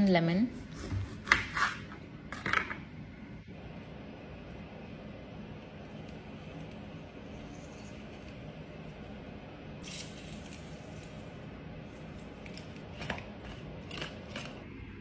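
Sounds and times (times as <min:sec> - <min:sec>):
steady low background noise: 0:00.0 - 0:14.0, 0:14.6 - 0:15.0.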